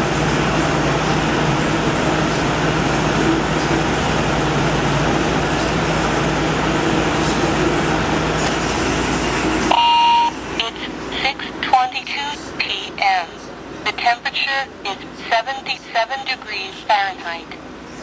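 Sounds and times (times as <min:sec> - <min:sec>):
air conditioner fan rushing: 0:00.0 - 0:15.4, 0:17.5 - 0:18.0
compressor low hum: 0:00.0 - 0:18.0.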